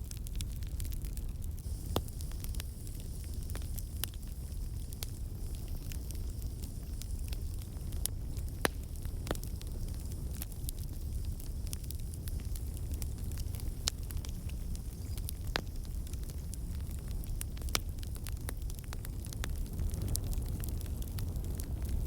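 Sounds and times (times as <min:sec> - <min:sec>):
fire crackling and popping: 0:00.0 - 0:22.0
low fire rumble: 0:00.0 - 0:22.0.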